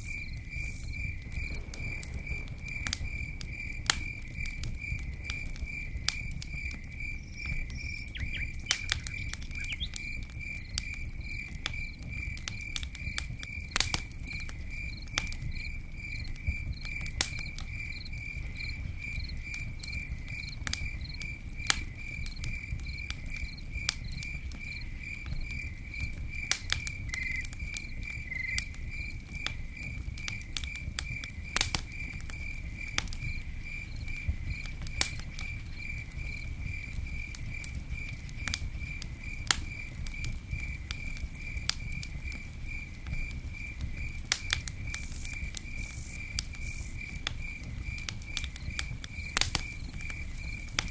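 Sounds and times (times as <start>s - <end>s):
campfire crackling and popping: 0.0s - 50.9s
cricket chirping: 0.0s - 50.9s.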